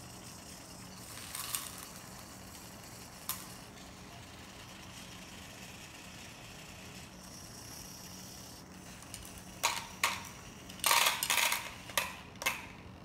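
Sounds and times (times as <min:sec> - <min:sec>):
robot servo motors whirring: 0:00.0 - 0:10.7.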